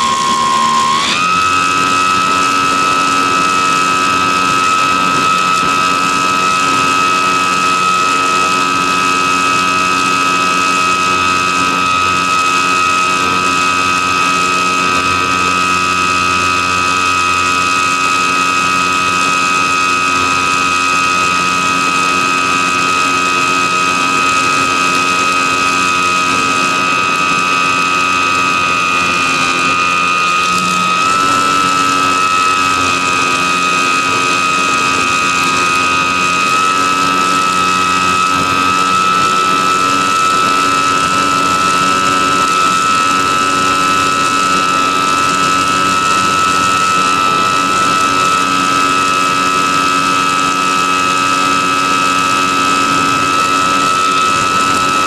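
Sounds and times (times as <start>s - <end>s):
electric motor and propeller whine: 0.0s - 55.0s.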